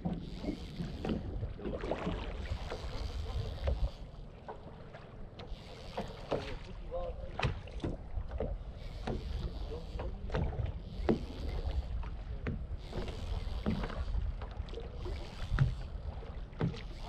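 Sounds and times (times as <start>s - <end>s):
sea water rumbling: 0.0s - 17.0s
wind: 0.0s - 17.0s.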